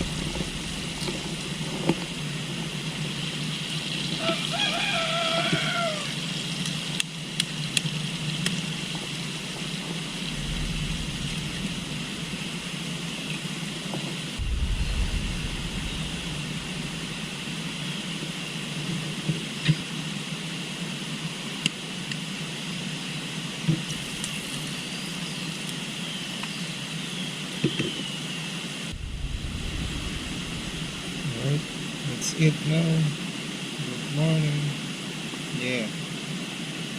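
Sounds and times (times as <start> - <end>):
insect chorus: 0.0 - 36.9.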